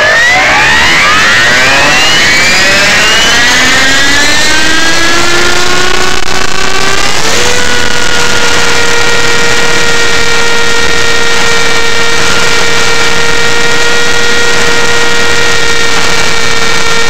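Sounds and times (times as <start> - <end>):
helicopter motor whine: 0.0 - 17.0.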